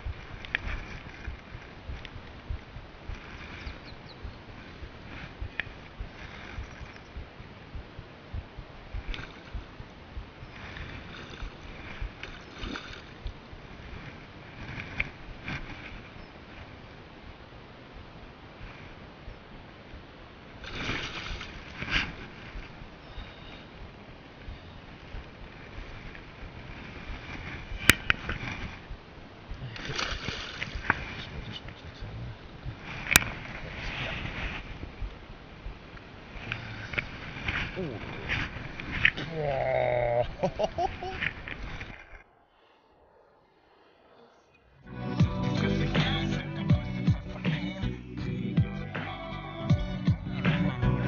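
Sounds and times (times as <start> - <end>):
water splashing: 0.0 - 43.1.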